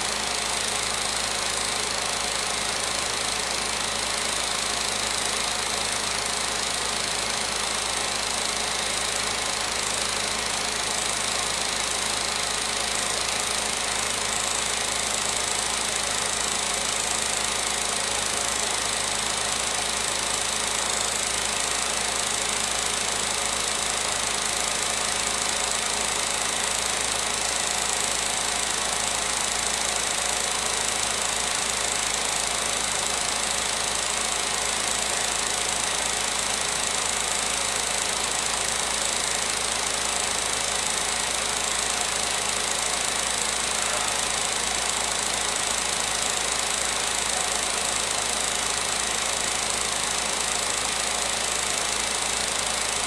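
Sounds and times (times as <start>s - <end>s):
film projector whirring and clattering: 0.0s - 53.0s.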